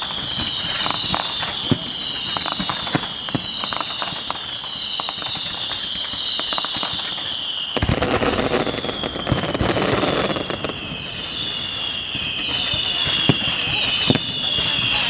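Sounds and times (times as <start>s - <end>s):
firework whistle falling in pitch: 0.0s - 15.0s
fireworks crackling bangs: 0.0s - 15.0s
sharp firework cracks: 0.0s - 15.0s.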